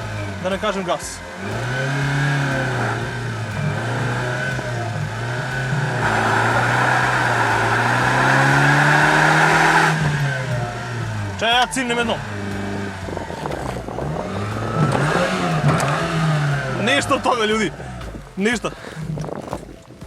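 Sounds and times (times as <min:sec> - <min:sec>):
loud rushing noise: 0:00.0 - 0:19.1
car engine revving hard: 0:00.0 - 0:19.2.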